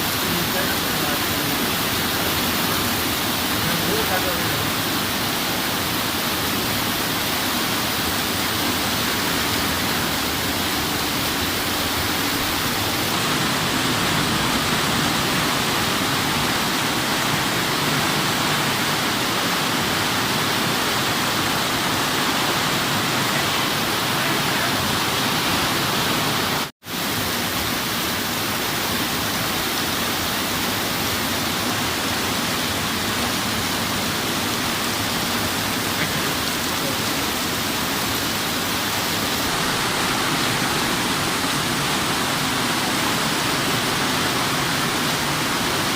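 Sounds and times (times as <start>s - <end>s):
torrential rain pouring: 0.0s - 45.9s.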